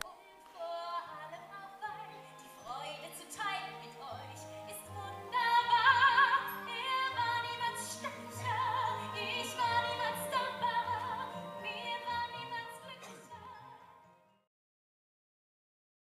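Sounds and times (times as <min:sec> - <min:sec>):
woman singing operatically: 0:00.0 - 0:13.9
orchestral accompaniment: 0:00.0 - 0:14.2.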